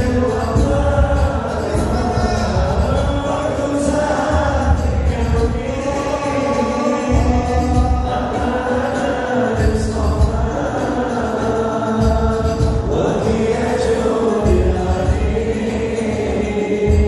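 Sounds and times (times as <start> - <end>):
amplified backing music with beat: 0.0 - 17.0
person singing long notes: 0.0 - 17.0.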